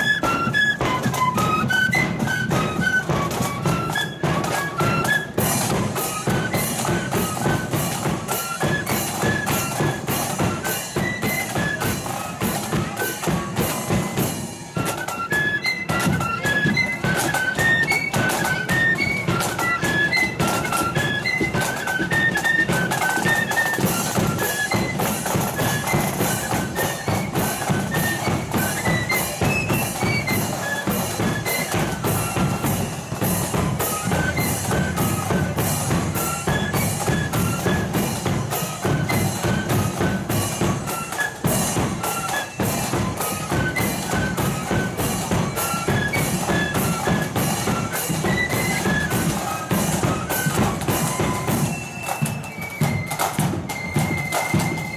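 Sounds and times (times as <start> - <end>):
steady drum beat: 0.0 - 54.0
flutes playing melody in unison: 0.0 - 54.9.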